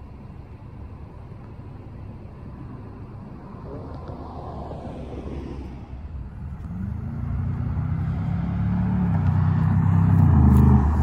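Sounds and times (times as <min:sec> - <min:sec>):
car engine approaching: 0:00.0 - 0:11.0.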